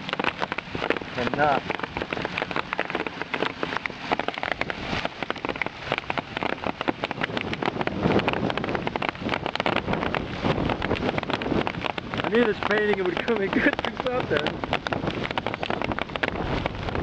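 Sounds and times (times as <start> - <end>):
hailstones clattering: 0.0 - 17.0
rain hissing: 0.0 - 17.0.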